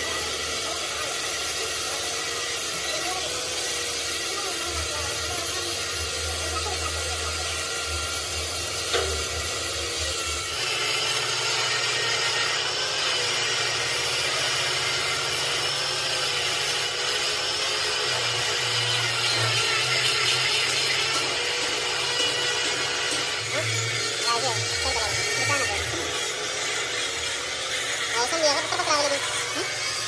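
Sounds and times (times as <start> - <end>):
steady machine noise: 0.0 - 30.0.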